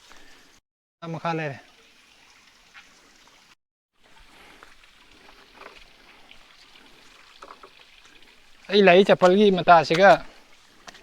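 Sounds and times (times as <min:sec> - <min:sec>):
waterfall trickle: 0:01.0 - 0:11.0.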